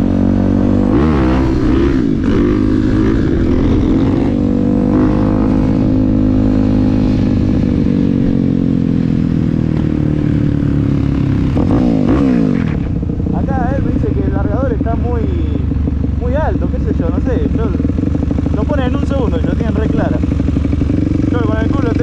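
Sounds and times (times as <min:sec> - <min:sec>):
motorcycle engine under load: 0:00.0 - 0:22.0.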